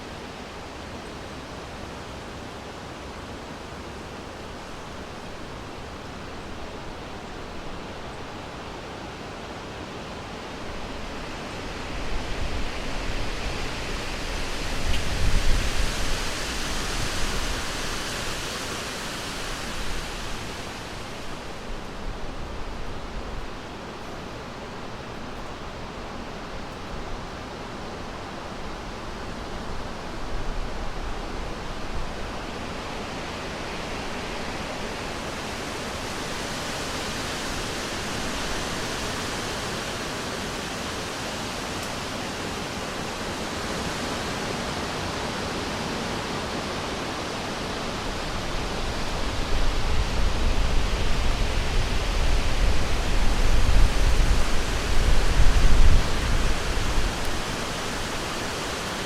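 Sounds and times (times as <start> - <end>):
wind blowing through trees: 0.0 - 59.0.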